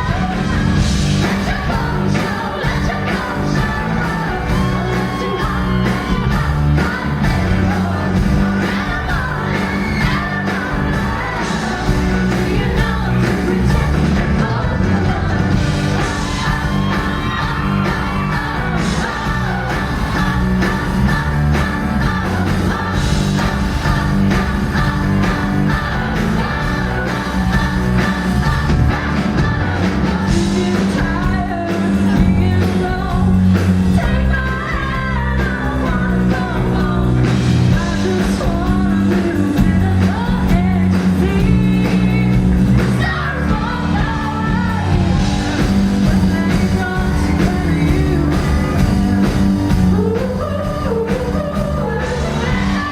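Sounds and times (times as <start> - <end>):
person singing lead vocal: 0.0 - 52.9
rock band playing: 0.0 - 52.9.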